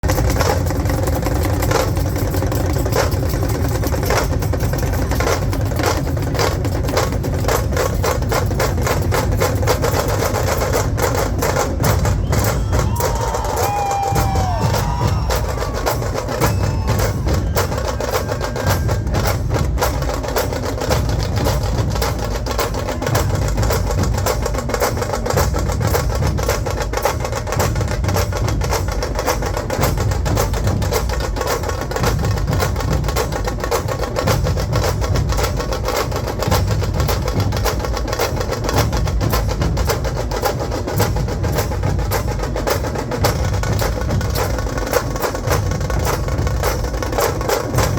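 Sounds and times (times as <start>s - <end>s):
dhol drums beating low pulse: 0.0s - 47.9s
sharp tasha drum strokes: 0.0s - 47.9s.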